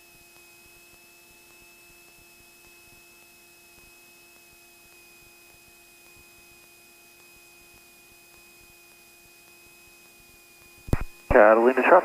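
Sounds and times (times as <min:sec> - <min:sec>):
electrical hum and hiss: 0:00.0 - 0:12.0
thin high whine: 0:00.0 - 0:12.0.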